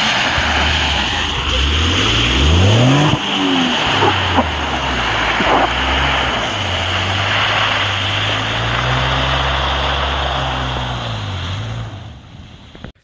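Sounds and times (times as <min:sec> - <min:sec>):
truck engine pulling under throttle: 0:00.0 - 0:13.0
wheels throwing mud: 0:00.0 - 0:13.0.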